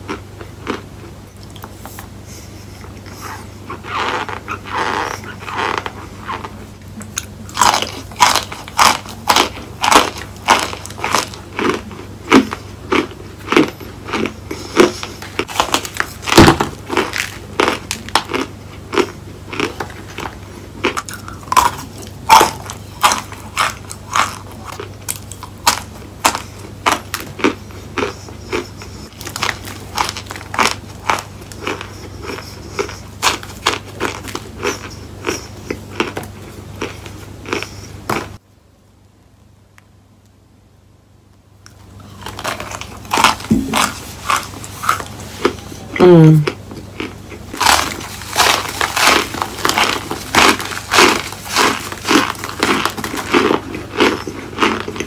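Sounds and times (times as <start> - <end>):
chewing crunchy food: 0.0 - 38.4, 41.6 - 55.0.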